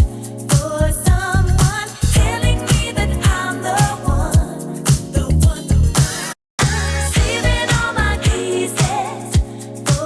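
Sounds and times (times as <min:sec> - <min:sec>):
pop music with kick drum: 0:00.0 - 0:10.0.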